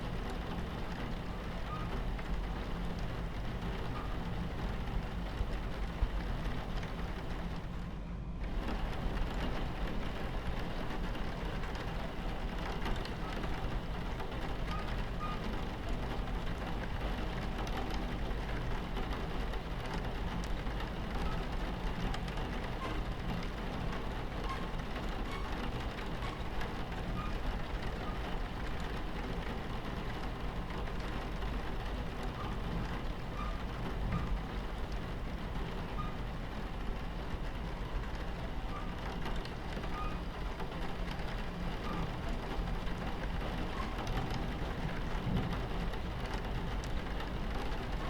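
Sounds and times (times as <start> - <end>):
rain on window: 0.0 - 48.0
train rumbling on tracks: 0.0 - 48.0.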